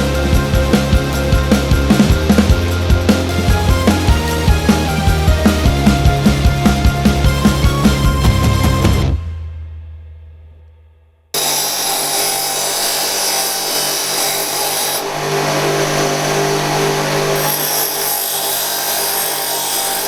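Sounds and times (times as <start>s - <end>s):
angle grinder grinding metal: 0.0s - 9.0s, 11.4s - 20.0s.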